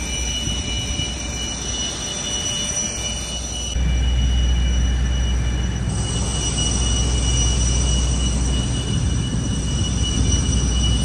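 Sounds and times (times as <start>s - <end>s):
constant low rumble: 0.0s - 11.0s
high whine in two tones: 0.0s - 11.0s.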